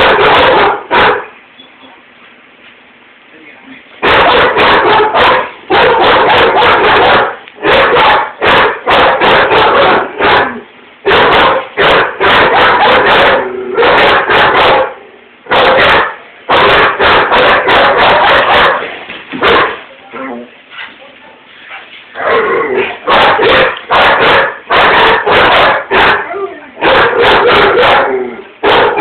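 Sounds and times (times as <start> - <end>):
dogs barking loudly: 0.0 - 1.4, 4.0 - 19.9, 22.2 - 29.0.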